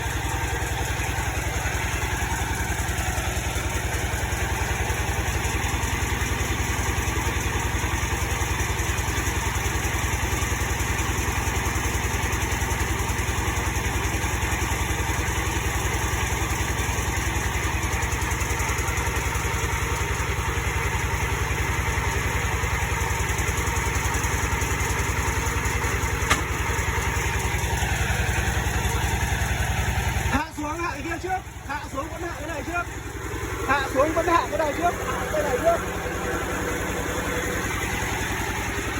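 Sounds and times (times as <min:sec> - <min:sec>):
drilling machine engine running: 0:00.0 - 0:38.9.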